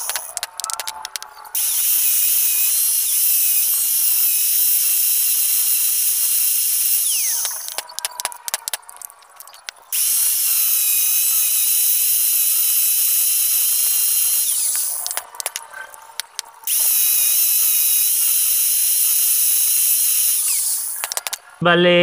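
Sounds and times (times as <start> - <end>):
screwdriver clicking on metal: 0.0 - 21.4
angle grinder grinding metal: 0.0 - 21.6.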